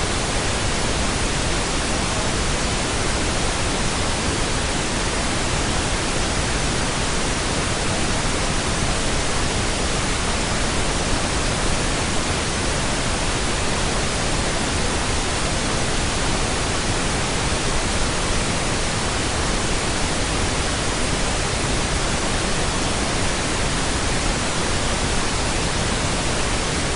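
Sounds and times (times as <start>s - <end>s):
pink noise hiss: 0.0s - 26.9s.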